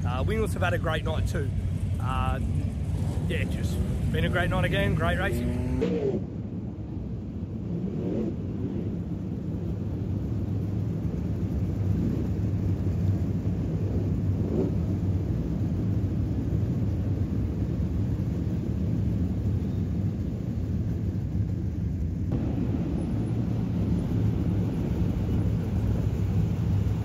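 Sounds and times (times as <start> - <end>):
racing car engines rumbling: 0.0 - 27.0.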